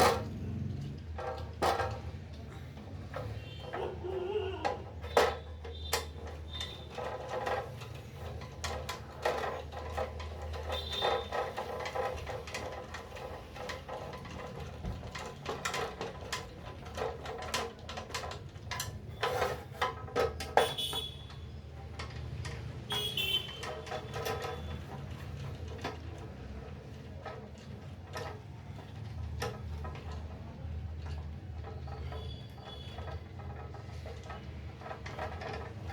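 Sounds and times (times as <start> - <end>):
hand tools and metal clinking: 0.0 - 35.9.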